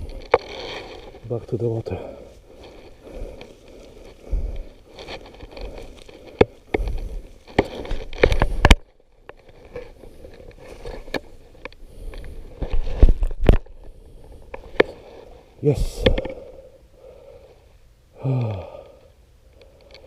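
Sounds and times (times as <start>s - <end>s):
handling rustling: 0.0s - 16.5s.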